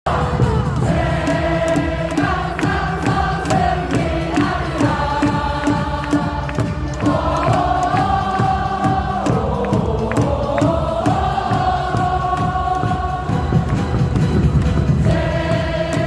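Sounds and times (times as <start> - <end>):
steady beat: 0.1 - 16.0
voices chanting in unison: 0.1 - 16.0.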